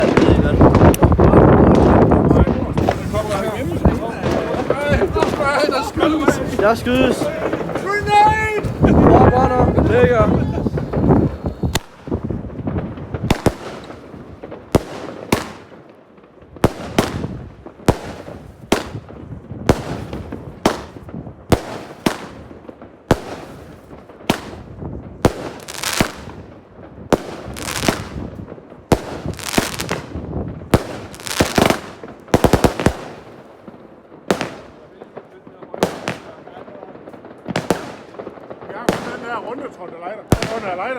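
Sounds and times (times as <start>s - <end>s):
firework bangs: 0.0s - 40.9s.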